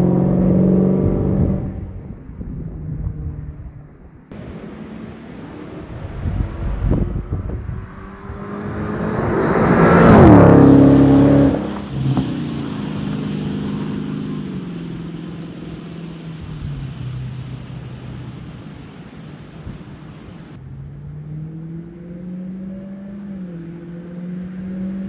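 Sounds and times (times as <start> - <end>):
car engine driving past: 0.0 - 25.0.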